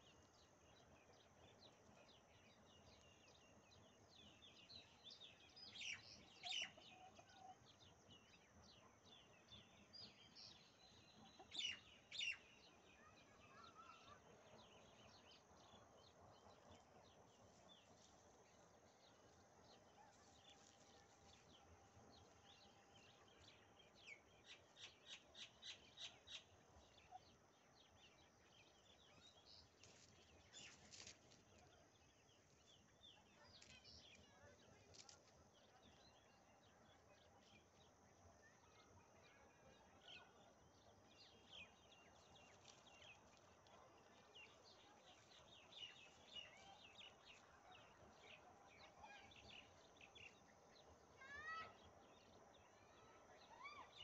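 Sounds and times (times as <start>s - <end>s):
faint bird chirps: 0.0s - 18.1s, 18.9s - 54.0s.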